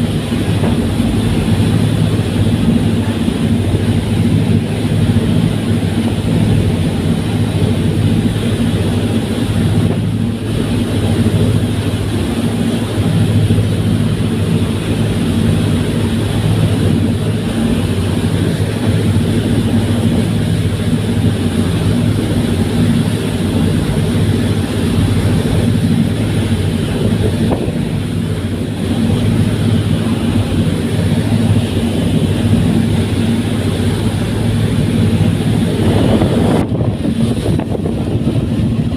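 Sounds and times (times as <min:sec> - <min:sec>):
ferry engines droning: 0:00.0 - 0:38.9
wind: 0:00.0 - 0:38.9.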